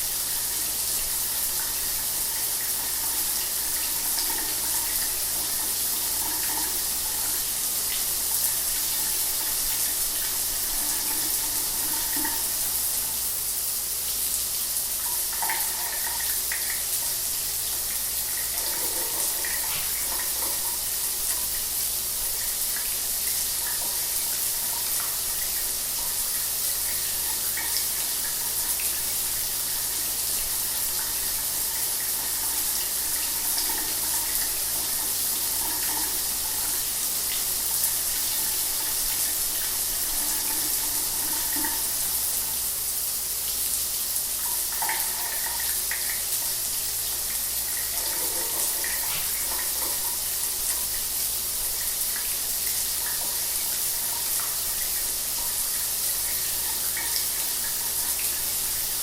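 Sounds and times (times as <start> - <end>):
shower water running: 0.0 - 59.0.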